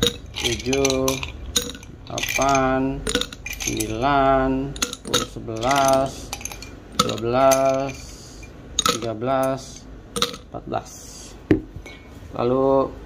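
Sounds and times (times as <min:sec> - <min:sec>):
ice cubes clinking in glass bottle: 0:00.0 - 0:10.5.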